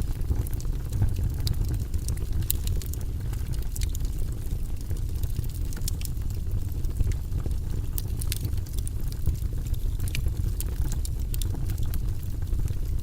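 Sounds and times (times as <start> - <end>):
fire crackling in a fireplace: 0.0 - 13.0.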